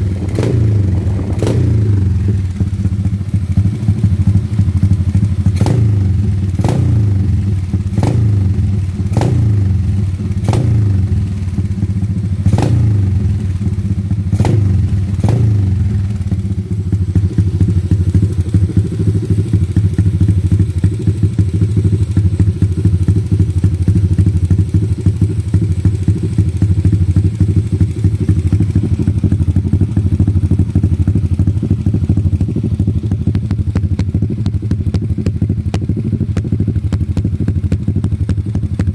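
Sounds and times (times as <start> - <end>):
motorcycle open exhaust blips: 0.0 - 38.9.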